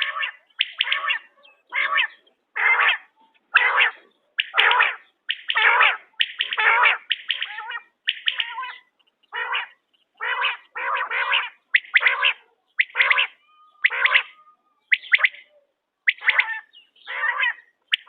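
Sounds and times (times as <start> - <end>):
quail calling: 0.0 - 18.0.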